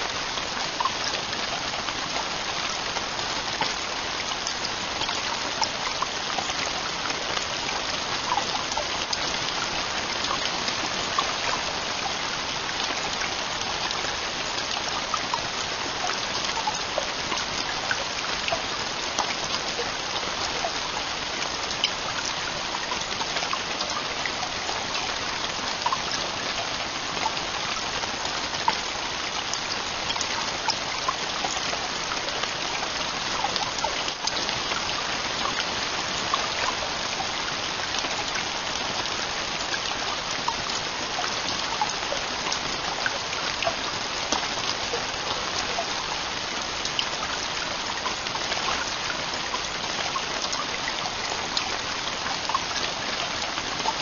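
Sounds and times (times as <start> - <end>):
heavy rain on tent roof: 0.0 - 54.0.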